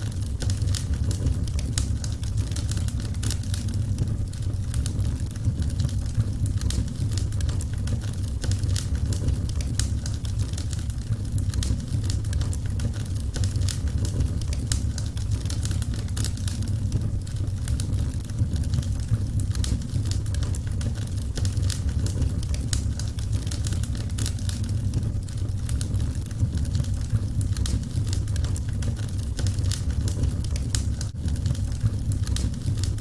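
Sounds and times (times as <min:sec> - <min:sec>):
low rumble: 0:00.0 - 0:33.0
wood fire crackling: 0:00.0 - 0:33.0.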